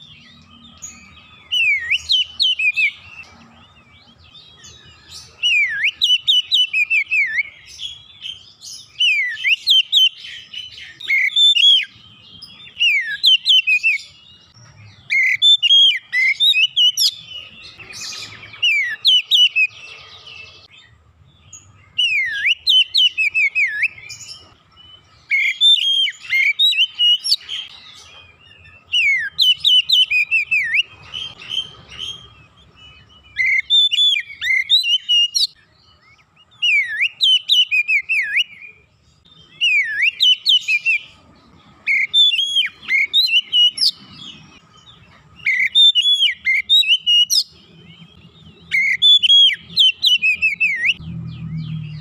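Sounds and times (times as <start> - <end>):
bird singing whistled phrases: 0.0 - 3.2, 4.6 - 20.0, 21.5 - 24.4, 25.2 - 41.2, 41.9 - 44.6, 45.4 - 52.0.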